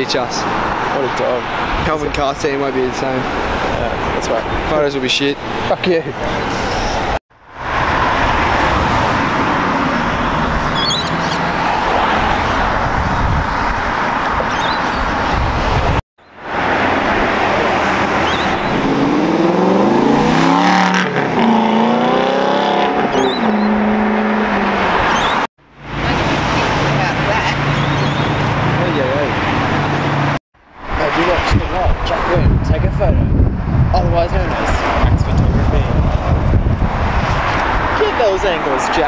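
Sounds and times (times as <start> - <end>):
cars driving past: 0.0 - 39.0.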